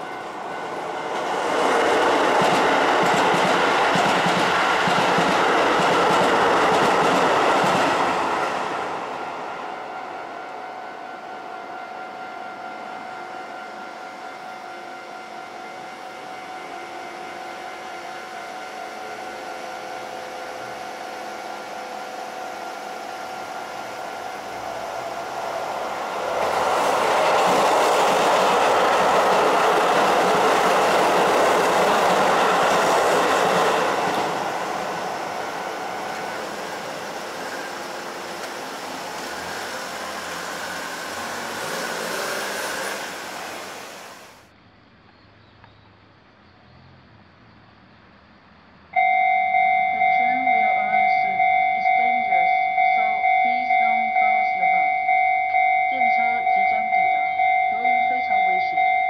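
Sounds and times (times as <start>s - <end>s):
railway crossing warning bell: 0.0s - 6.4s, 9.0s - 42.3s, 49.0s - 59.0s
train passing: 0.0s - 44.5s, 48.2s - 59.0s.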